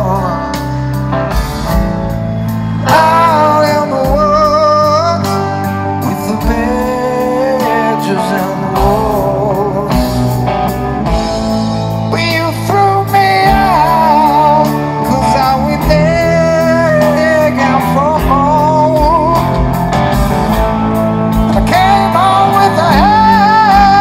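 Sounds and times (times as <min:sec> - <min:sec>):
man singing lead vocal: 0:00.0 - 0:01.5, 0:02.4 - 0:11.2, 0:11.9 - 0:24.0
rock band playing: 0:00.0 - 0:24.0.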